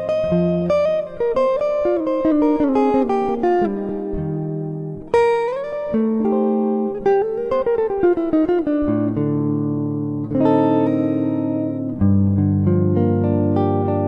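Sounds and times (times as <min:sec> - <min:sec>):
solo guitar playing: 0:00.0 - 0:14.0.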